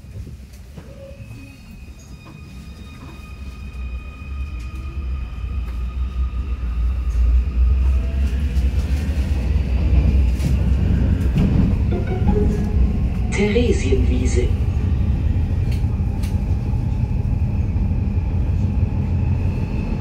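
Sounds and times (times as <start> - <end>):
metro train rumble: 0.0 - 20.0.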